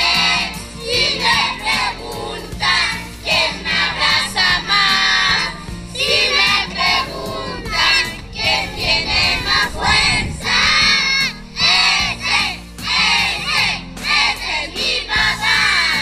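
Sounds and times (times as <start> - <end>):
children chanting and shouting: 0.0 - 16.0.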